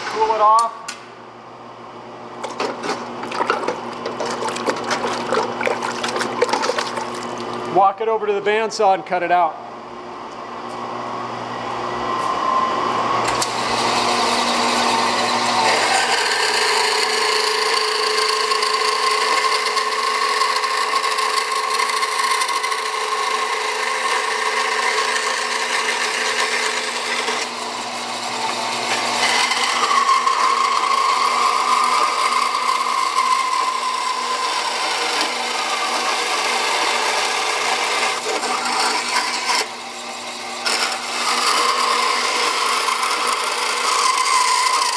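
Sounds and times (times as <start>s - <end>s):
bandsaw cutting steel: 2.4s - 7.9s, 13.2s - 44.9s.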